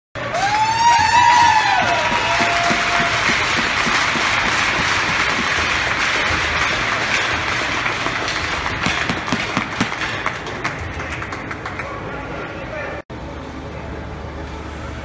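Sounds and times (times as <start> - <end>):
crowd cheering: 0.2 - 12.4
crowd clapping: 0.2 - 12.4.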